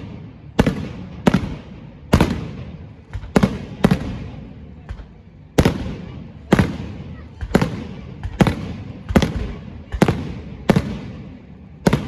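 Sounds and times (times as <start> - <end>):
fireworks bursting with echo: 0.0 - 12.0.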